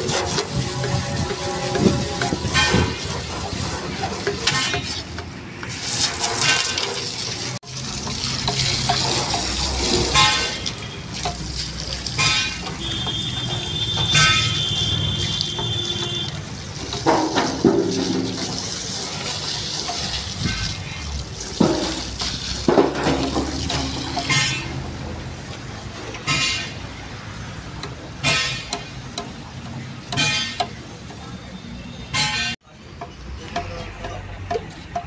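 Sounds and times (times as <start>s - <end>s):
hose water splashing on metal tank: 0.0s - 31.4s.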